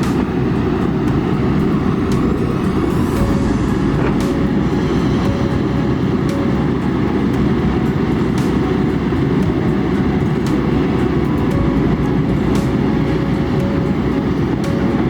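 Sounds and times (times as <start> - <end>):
excavator diesel engine rumble: 0.0 - 15.0.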